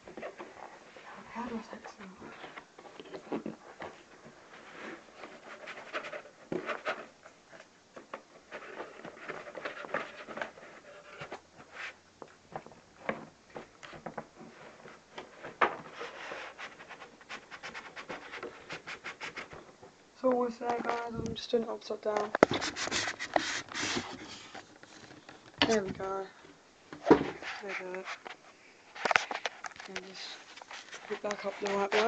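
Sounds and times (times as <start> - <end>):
cardboard and polystyrene rustling: 0.0 - 12.0, 12.6 - 19.7, 20.4 - 26.4, 27.0 - 32.0.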